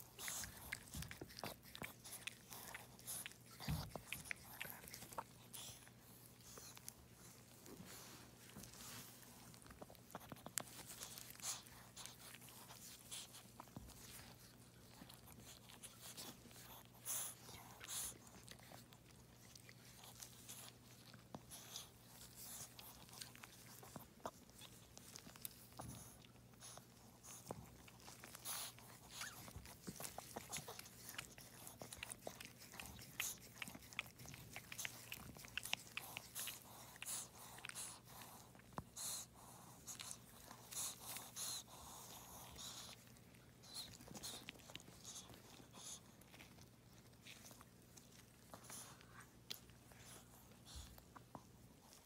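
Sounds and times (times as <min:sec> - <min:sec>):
faint wet clicks and smacks: 0:00.0 - 0:52.0.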